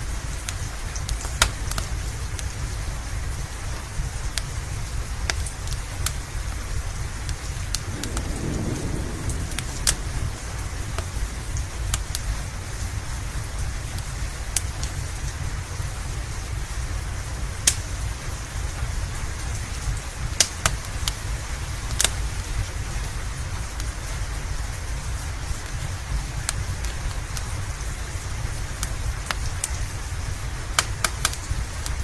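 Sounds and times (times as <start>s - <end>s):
log fire crackling: 0.0s - 32.0s
low constant rumble: 0.0s - 32.0s
steady rain: 0.0s - 32.0s.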